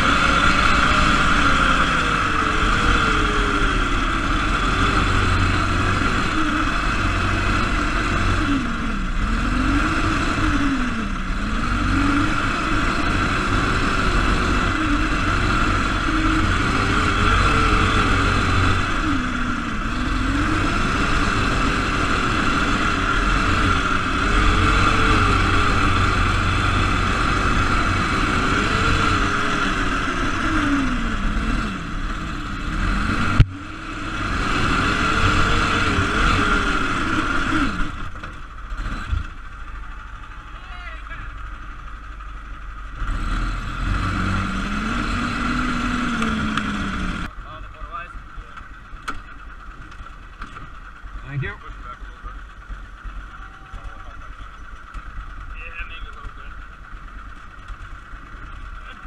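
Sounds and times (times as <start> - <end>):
single-cylinder engine revving: 0.0 - 59.0.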